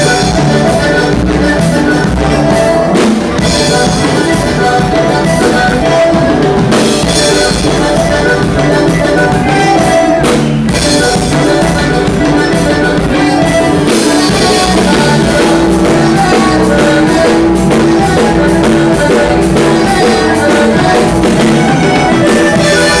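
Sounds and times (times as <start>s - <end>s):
drum kit steady beat: 0.0s - 23.0s
sustained instrumental notes: 0.0s - 23.0s.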